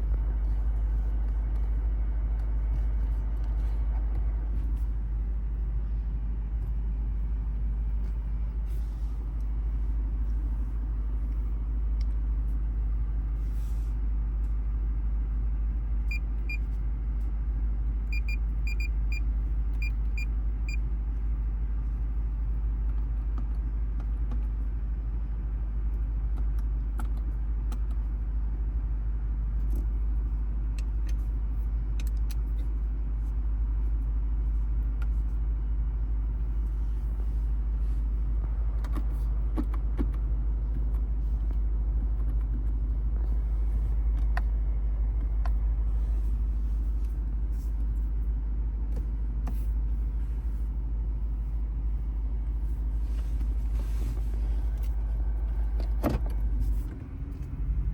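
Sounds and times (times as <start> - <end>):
car engine low rumble: 0.0 - 57.9.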